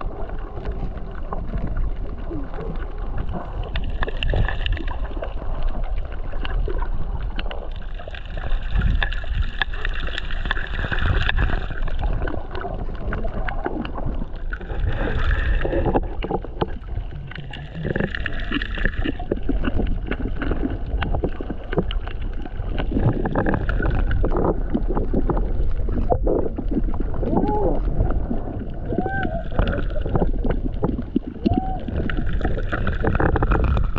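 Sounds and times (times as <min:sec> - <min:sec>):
gurgling bubbles: 0:00.0 - 0:33.9
muffled underwater rumble: 0:00.0 - 0:33.9
crackling clicks: 0:00.3 - 0:28.7, 0:29.4 - 0:33.9.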